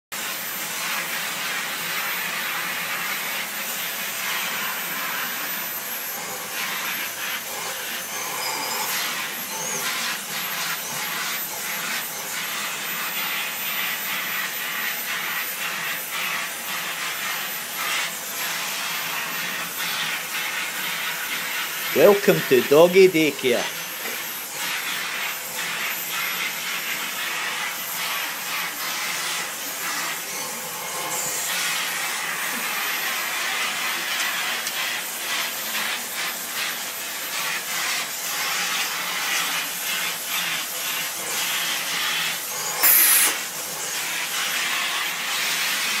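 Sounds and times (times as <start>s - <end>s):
vacuum cleaner hissing: 0.2s - 46.0s.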